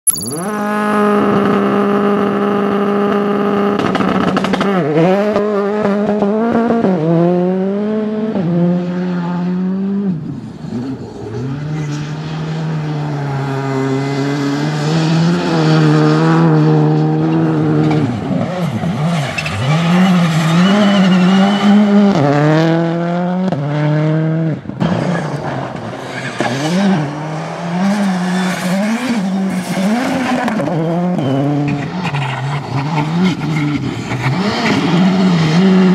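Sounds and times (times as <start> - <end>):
rally car engines revving: 0.4 - 35.9.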